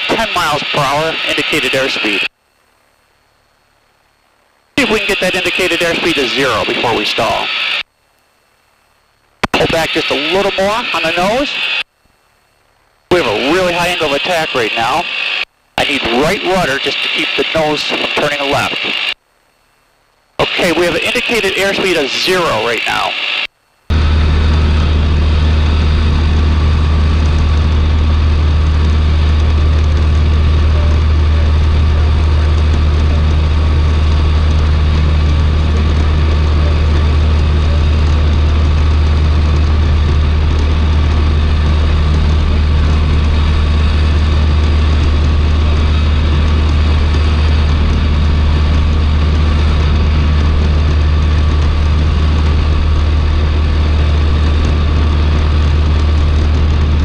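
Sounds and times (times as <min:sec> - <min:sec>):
airplane engine and propeller droning: 0:00.0 - 0:02.8, 0:04.8 - 0:07.9, 0:09.4 - 0:19.2, 0:20.3 - 0:57.0.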